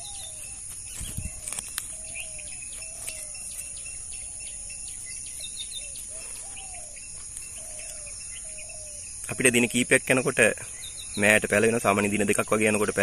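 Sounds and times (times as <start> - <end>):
bird chirps: 0.0 - 13.0
high insect drone: 0.0 - 13.0.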